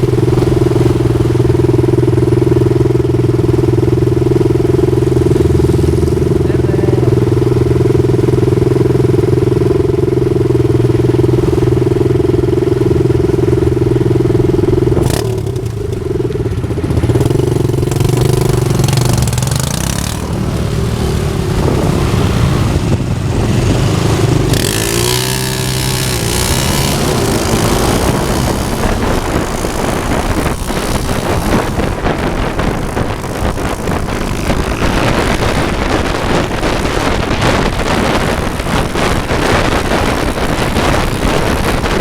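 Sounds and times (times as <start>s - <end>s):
motorcycle engines running: 0.0s - 42.0s.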